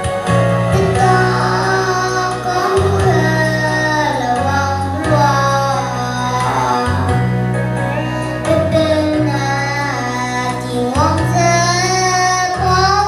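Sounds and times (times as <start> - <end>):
instrumental accompaniment: 0.0 - 13.0
sustained bass notes: 0.0 - 13.0
girl singing into microphone: 0.7 - 13.0.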